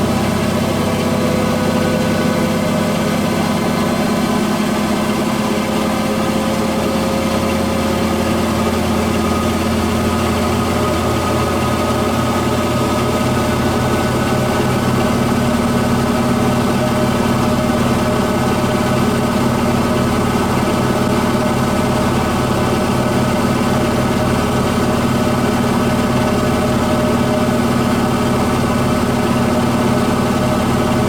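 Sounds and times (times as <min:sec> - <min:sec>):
washing machine running: 0:00.0 - 0:31.0.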